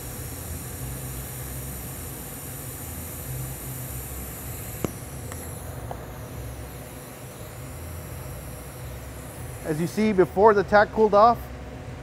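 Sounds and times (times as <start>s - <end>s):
welding arc hissing: 0.0s - 10.9s.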